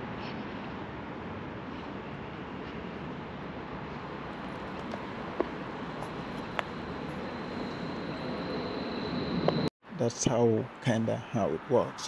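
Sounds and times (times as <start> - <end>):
distant traffic noise: 0.0 - 12.0.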